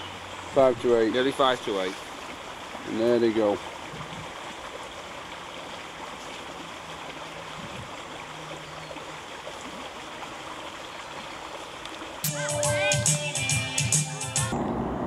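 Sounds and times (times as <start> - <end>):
floodwater rushing: 0.0 - 14.8.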